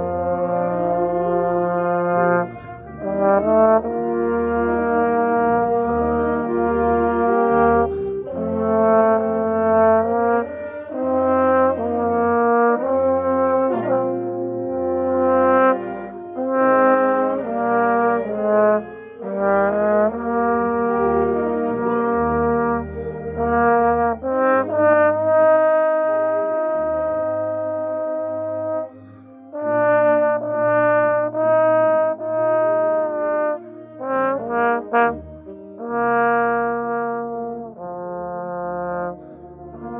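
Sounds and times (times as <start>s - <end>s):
band instruments: 0.0s - 39.9s
trombone playing melody: 0.0s - 39.9s.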